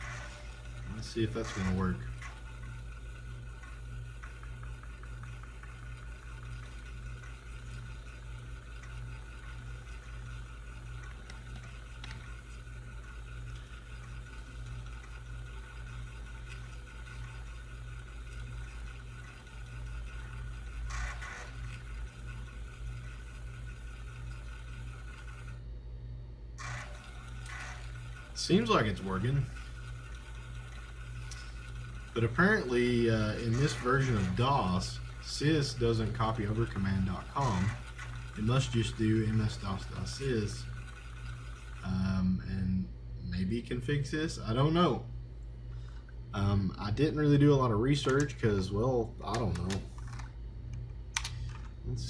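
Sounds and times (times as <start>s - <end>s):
floppy drive reading: 0.0s - 52.0s
pulsing computer hum: 0.0s - 52.0s
thin steady whine: 0.0s - 52.0s.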